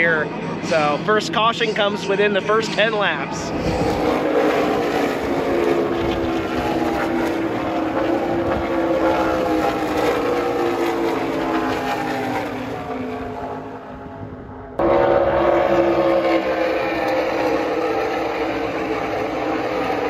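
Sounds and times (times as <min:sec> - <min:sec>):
engines droning: 0:00.0 - 0:20.0.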